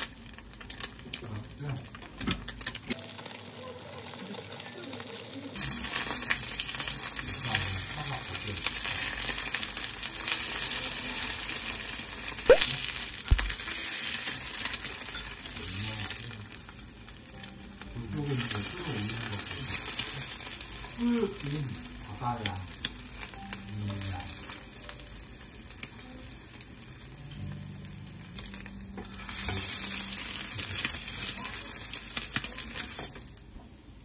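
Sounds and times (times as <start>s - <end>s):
rice sizzling in a frying pan: 0.0s - 34.0s.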